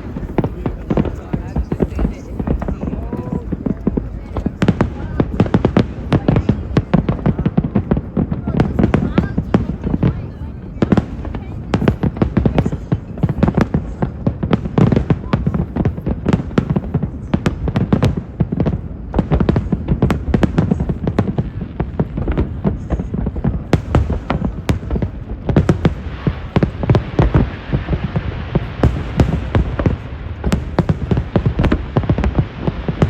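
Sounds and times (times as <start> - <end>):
fireworks booming and crackling: 0.0 - 33.0.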